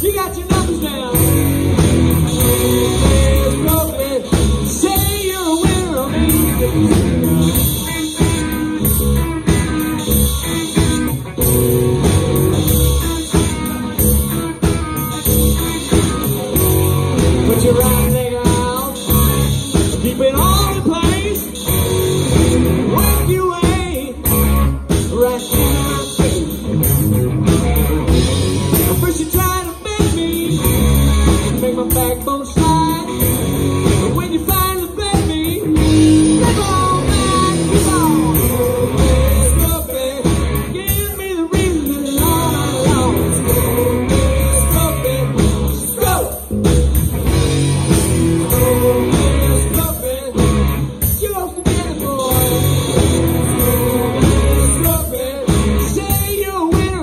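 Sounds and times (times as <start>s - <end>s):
person singing lead vocal: 0.0s - 11.4s, 12.6s - 26.8s, 27.4s - 47.0s, 47.8s - 57.0s
bass guitar: 0.0s - 57.0s
distorted electric guitars: 0.0s - 57.0s
drum kit: 0.0s - 57.0s.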